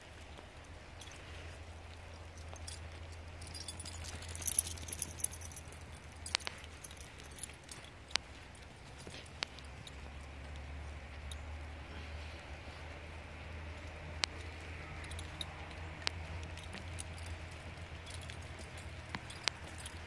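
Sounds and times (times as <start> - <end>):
steady low hum: 0.0 - 20.0
dog tags jingling and clicking: 0.1 - 11.7, 13.5 - 20.0.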